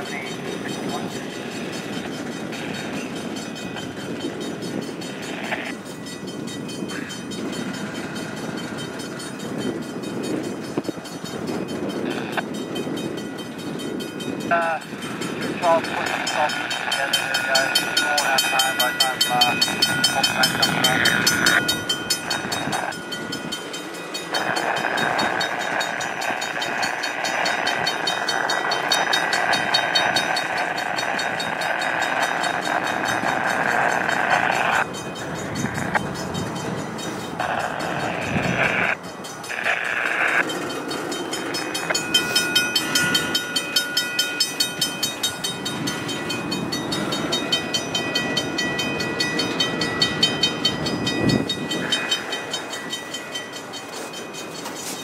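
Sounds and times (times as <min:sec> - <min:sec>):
high ringing tones: 0:00.0 - 0:55.0
train wheels rumbling on rails: 0:00.0 - 0:55.0
wheels clacking over rail joints: 0:00.0 - 0:55.0.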